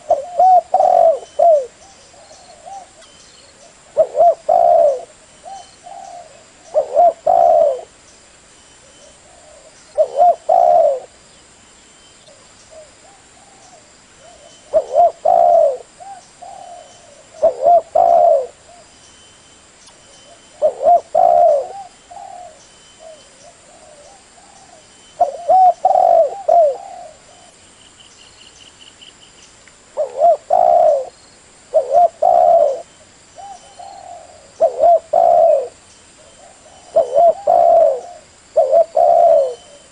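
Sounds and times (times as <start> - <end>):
dove cooing: 0.0 - 8.0, 8.9 - 11.2, 12.7 - 18.9, 20.3 - 27.6, 30.0 - 39.9.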